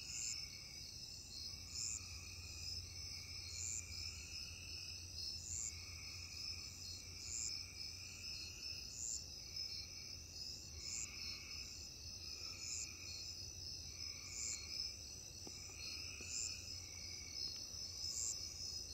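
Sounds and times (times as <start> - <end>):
slow pulsing insect call: 0.0 - 18.9
crickets and insects trilling: 0.1 - 18.9.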